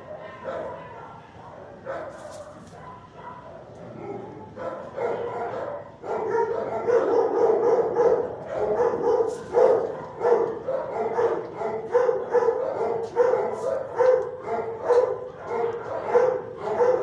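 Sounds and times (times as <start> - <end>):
dogs barking: 0.0 - 17.0.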